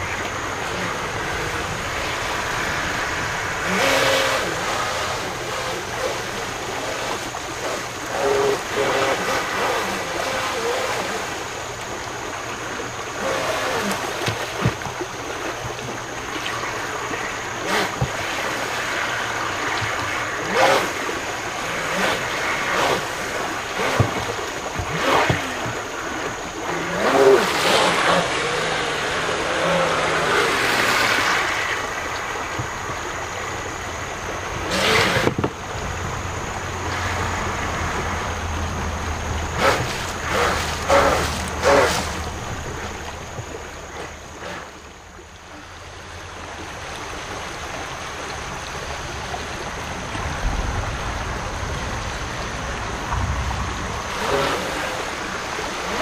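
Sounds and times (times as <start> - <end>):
rc boat motor whining: 0.0 - 46.3, 52.2 - 56.0
creek water rushing over rocks: 0.0 - 56.0.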